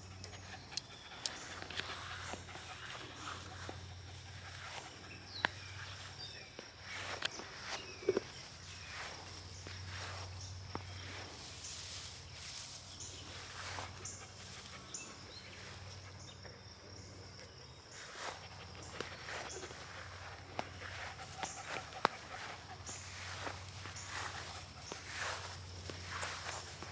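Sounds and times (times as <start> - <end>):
footsteps scuffing on ground: 1.1 - 6.1, 6.8 - 15.8, 18.0 - 26.9.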